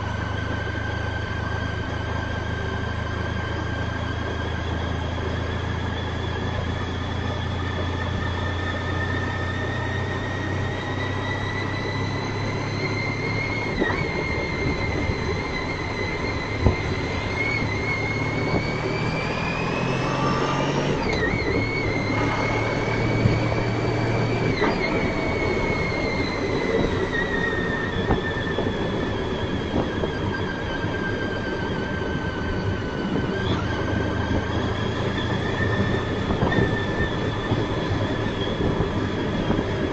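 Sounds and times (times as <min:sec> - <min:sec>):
high whine: 0:00.0 - 0:39.9
motorcycle engine and road noise: 0:00.0 - 0:39.9.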